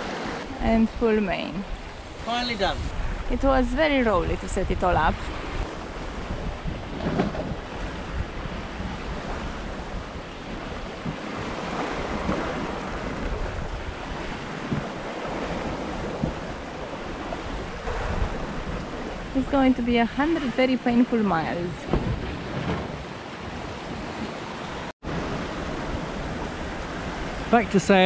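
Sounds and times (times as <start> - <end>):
breaking sea: 0.0 - 28.0
water streaming along hull: 0.0 - 28.0
wind buffeting microphone: 0.0 - 28.0.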